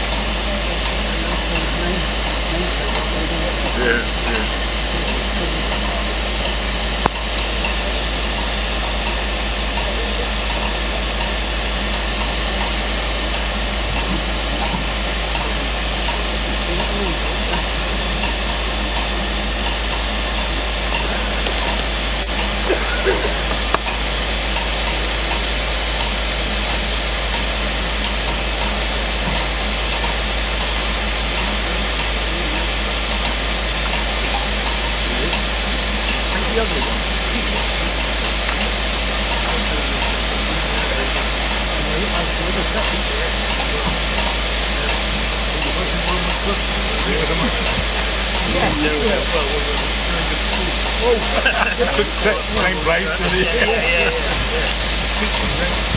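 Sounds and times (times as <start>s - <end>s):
steam hissing from locomotive: 0.0s - 55.9s.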